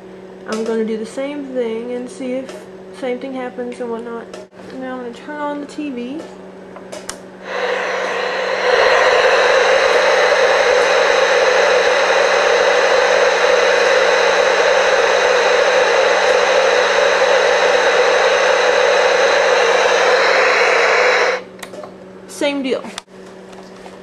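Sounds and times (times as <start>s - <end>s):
constant low hum: 0.4s - 24.0s.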